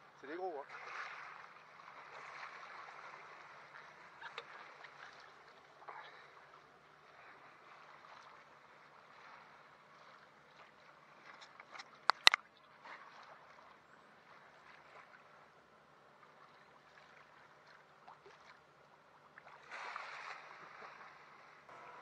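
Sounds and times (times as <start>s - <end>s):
water rushing along hull: 0.0s - 22.0s
water splashes: 0.2s - 22.0s.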